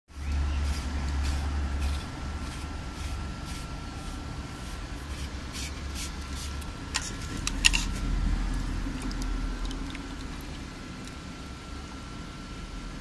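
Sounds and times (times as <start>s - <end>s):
low hum: 0.1s - 13.0s.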